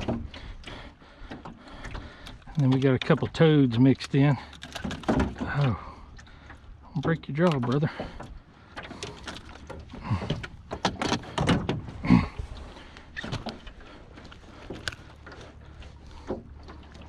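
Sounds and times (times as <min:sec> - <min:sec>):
clicks rattles and hollow knocks: 0:00.0 - 0:17.0.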